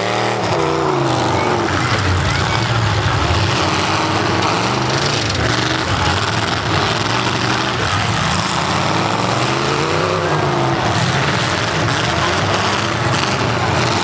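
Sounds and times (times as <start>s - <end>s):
car engines running and revving: 0.0s - 14.0s.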